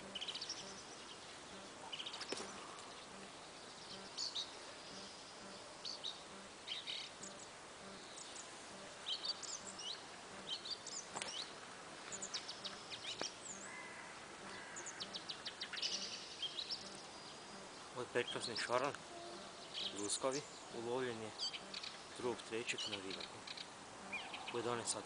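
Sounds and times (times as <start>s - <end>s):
birds chirping and singing: 0.0s - 25.0s
outdoor background hiss: 0.0s - 25.0s.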